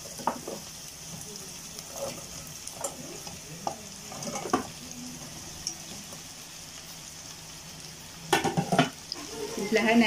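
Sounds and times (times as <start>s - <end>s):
tofu sizzling in hot oil: 0.0s - 10.0s.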